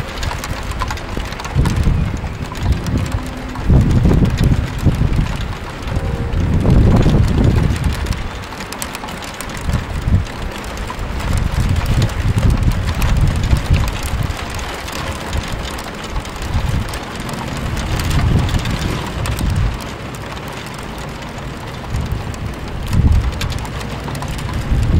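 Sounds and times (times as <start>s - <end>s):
rain falling: 0.0s - 24.9s
wind buffeting the microphone: 0.0s - 24.9s.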